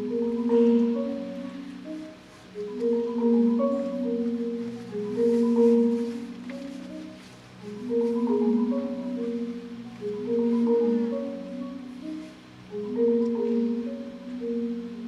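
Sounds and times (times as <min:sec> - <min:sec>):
marimba rolled chords: 0:00.0 - 0:15.0.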